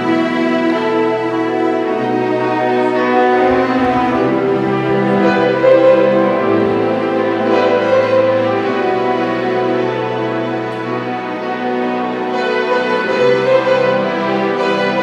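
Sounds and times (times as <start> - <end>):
orchestra strings playing chords: 0.0 - 15.0.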